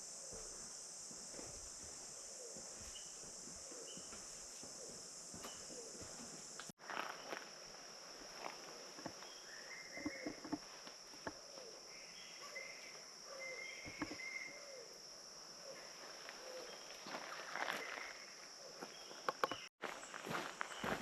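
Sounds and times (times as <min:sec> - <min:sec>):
crickets and insects chorus: 0:00.0 - 0:21.0.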